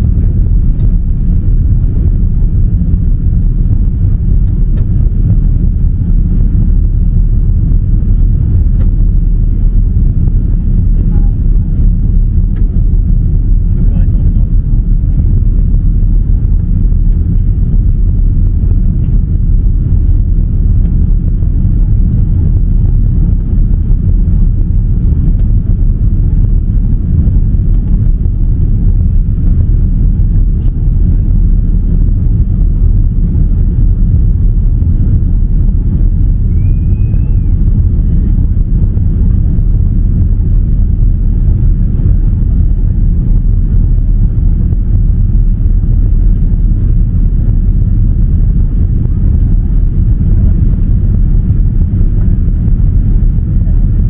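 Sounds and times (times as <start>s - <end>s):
air rushing outside: 0.0s - 54.0s
jet engines low rumble: 0.0s - 54.0s.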